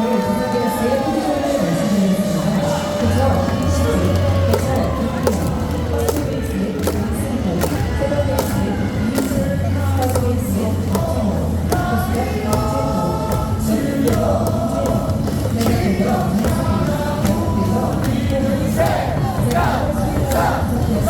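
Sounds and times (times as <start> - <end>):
crowd singing in unison: 0.0 - 21.0
music over stadium speakers: 0.0 - 21.0.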